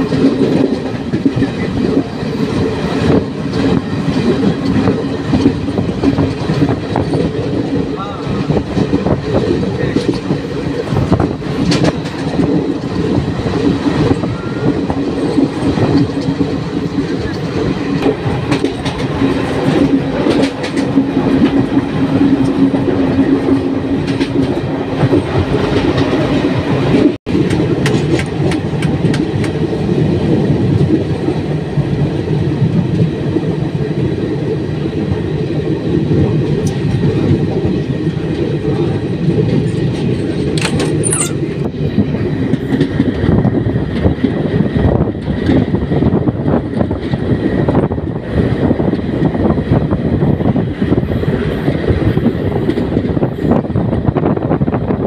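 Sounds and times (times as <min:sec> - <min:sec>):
rail joint clicks: 0:00.0 - 0:55.0
train wheels rumbling on rail: 0:00.0 - 0:55.0.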